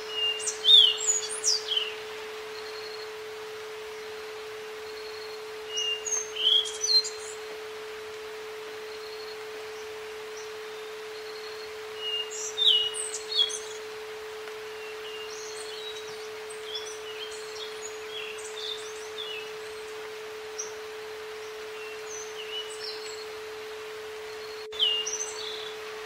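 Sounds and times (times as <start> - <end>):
soft nature ambience hiss: 0.0 - 26.0
songbirds chirping: 0.0 - 26.0
steady electronic tone: 1.6 - 26.0.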